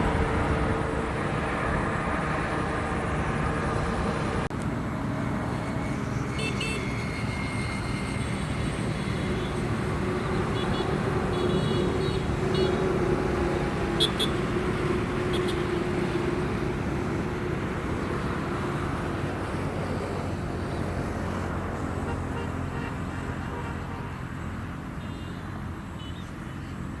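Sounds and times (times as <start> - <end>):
passing motor vehicle rumble: 0.0 - 27.0.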